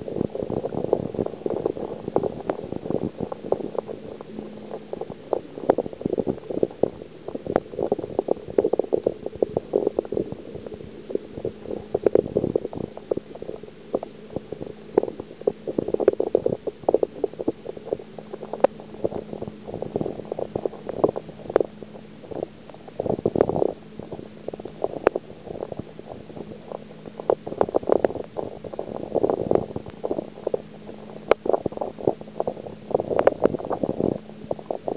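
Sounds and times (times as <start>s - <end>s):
steady low hum: 0.0s - 34.9s
underwater gurgling and bubbling: 0.0s - 34.9s.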